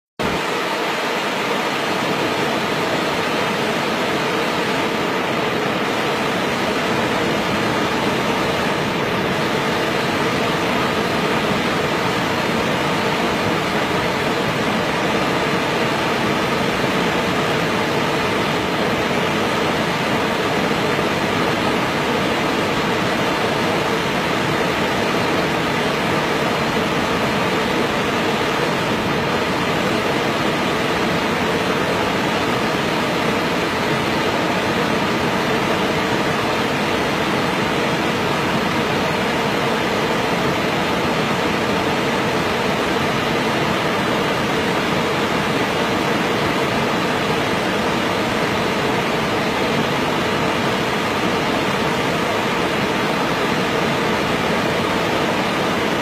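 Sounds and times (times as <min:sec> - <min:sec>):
water rushing over rocks: 0:00.2 - 0:56.0.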